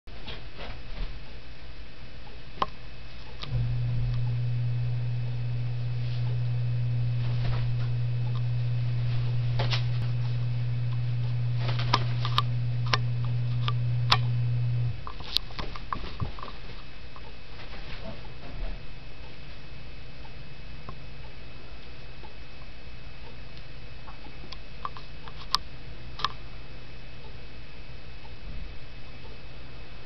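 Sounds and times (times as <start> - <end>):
low electrical hum: 0.1 - 30.0.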